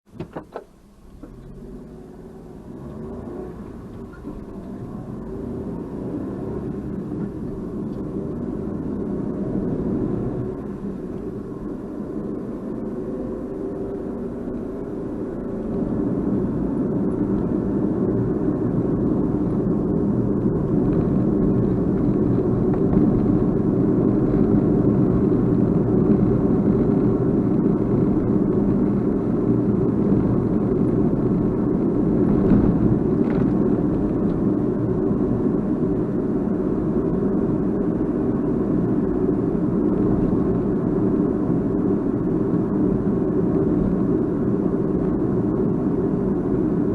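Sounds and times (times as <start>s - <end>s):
vehicle motor rumble: 0.1s - 46.9s.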